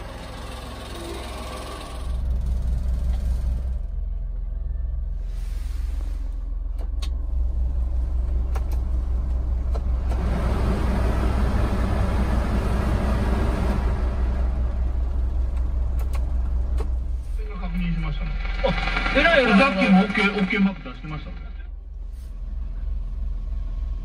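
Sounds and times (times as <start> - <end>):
small engine idling: 0.0 - 9.7, 13.9 - 24.0.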